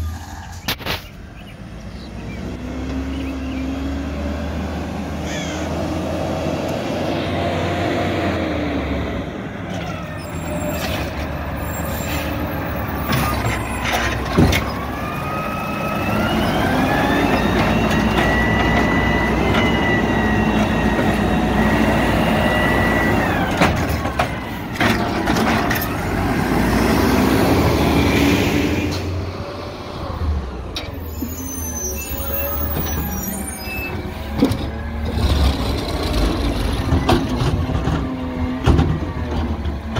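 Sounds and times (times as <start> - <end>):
diesel engine running under load: 1.4 - 39.9.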